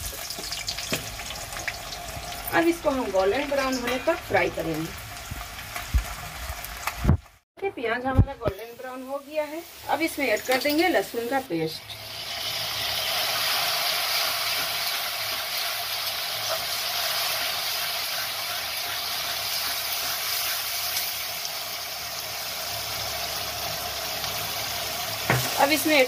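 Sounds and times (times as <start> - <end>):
garlic paste sizzling in hot oil: 0.0 - 7.4, 8.3 - 26.0.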